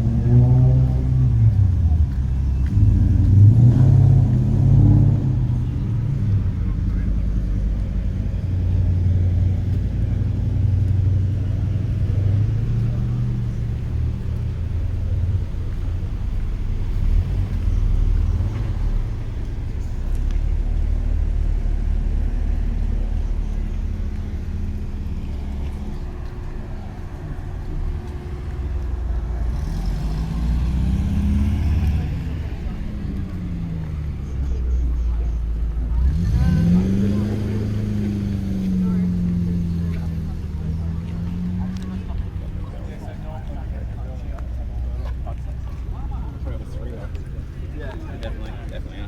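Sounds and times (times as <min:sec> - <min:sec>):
car engine idling: 0:00.0 - 0:49.0
steady low rumble: 0:00.0 - 0:49.0.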